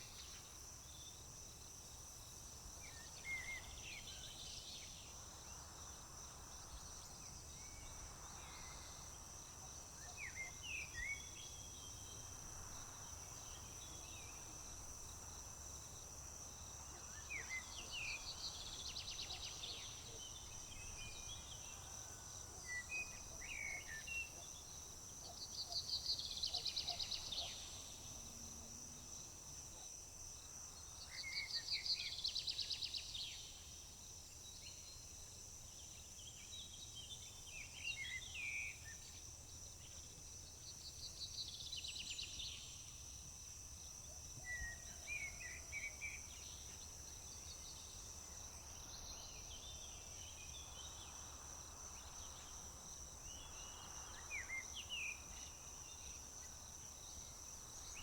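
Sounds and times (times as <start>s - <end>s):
crickets droning: 0.0s - 58.0s.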